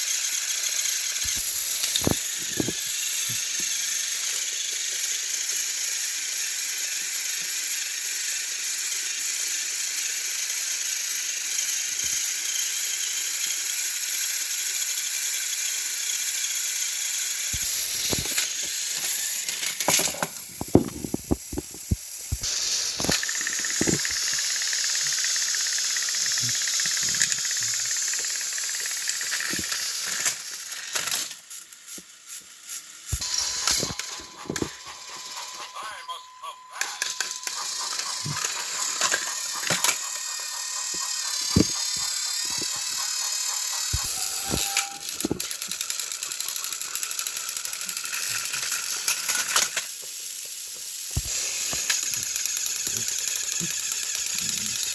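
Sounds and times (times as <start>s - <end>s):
toy motors whirring: 0.0s - 54.9s.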